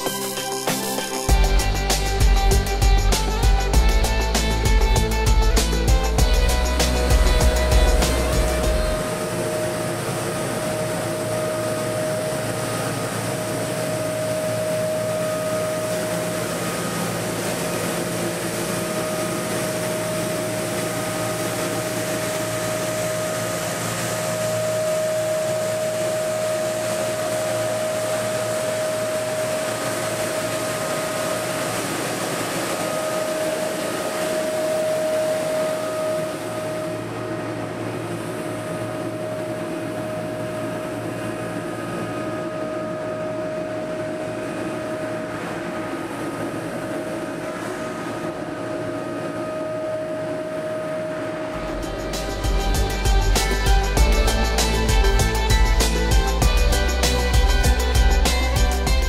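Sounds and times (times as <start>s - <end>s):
road sweeper running with whine: 0.0s - 59.0s.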